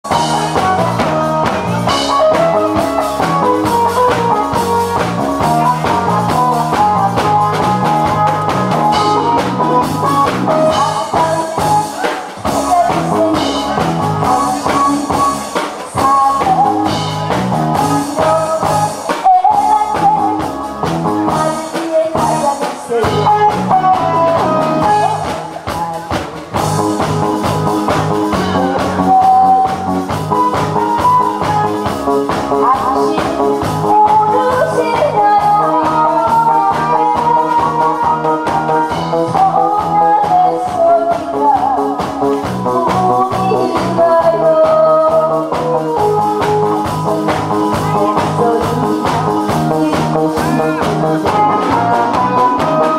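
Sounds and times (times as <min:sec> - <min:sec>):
amplified backing music with drums: 0:00.0 - 0:52.9
woman singing into microphone: 0:00.1 - 0:26.0, 0:28.3 - 0:52.9.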